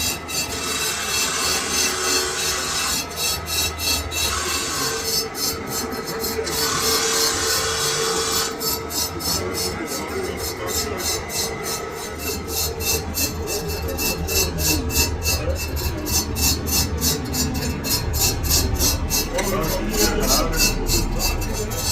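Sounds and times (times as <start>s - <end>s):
lathe humming: 0.0s - 21.9s
metal scraping on a lathe: 0.0s - 21.9s.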